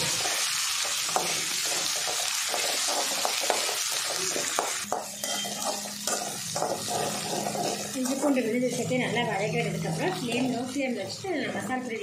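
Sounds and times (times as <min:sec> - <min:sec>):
onions sizzling in hot oil: 0:00.0 - 0:12.0
spatula scraping metal pan: 0:01.1 - 0:11.9.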